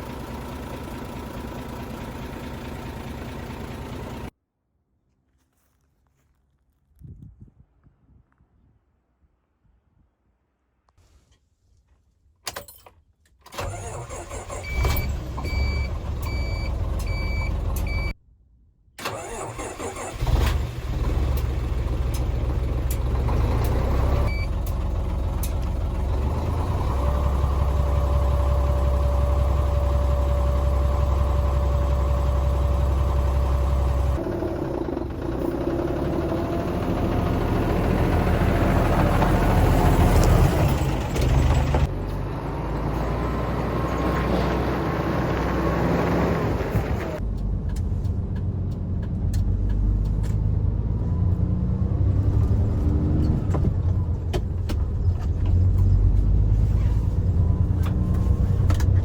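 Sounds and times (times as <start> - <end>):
diesel truck engine: 0.0 - 4.4, 13.4 - 18.2, 19.0 - 59.0.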